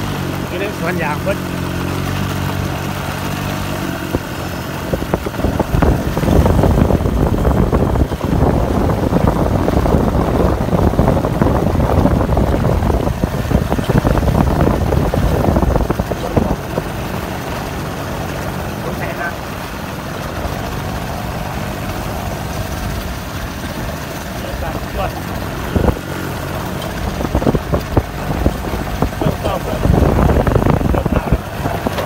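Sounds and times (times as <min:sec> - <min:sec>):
vehicle engine running: 0:00.0 - 0:32.0
wind buffeting microphone: 0:01.1 - 0:32.0.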